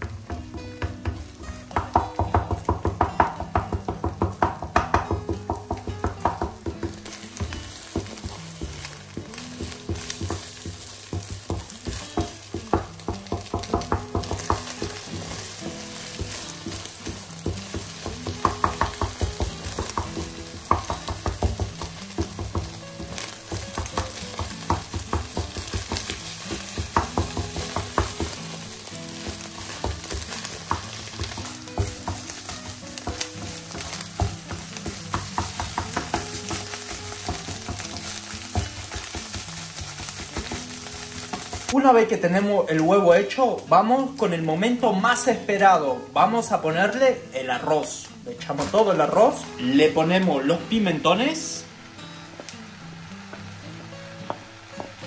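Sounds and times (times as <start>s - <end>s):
eggs sizzling in frying pan: 0.0s - 55.0s.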